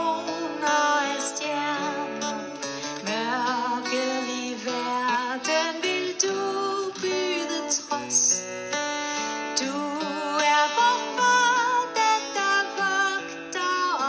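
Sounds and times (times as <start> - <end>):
acoustic guitar: 0.0 - 14.0
woman singing with vibrato: 0.0 - 14.0.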